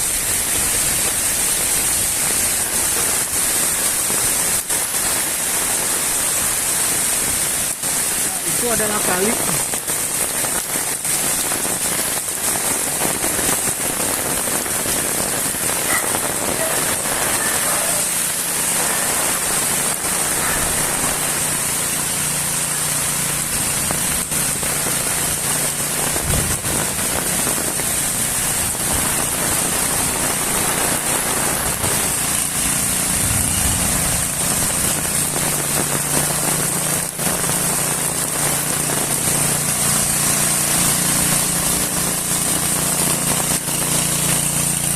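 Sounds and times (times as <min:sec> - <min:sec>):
heavy rain on paving: 0:00.0 - 0:44.9.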